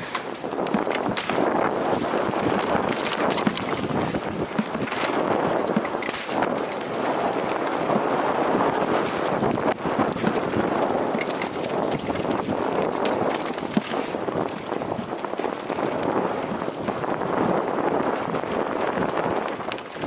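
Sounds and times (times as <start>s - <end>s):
bike clicks and knocks: 0.0s - 20.0s
bike rattling: 0.0s - 20.0s
tyre noise on dirt: 0.0s - 20.0s.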